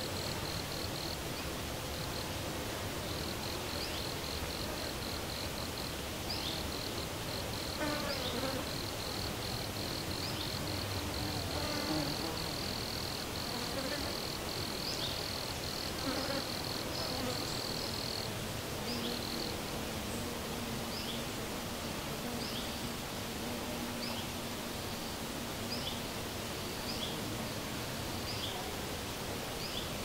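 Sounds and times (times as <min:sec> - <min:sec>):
insect buzzing drone: 0:00.0 - 0:30.0.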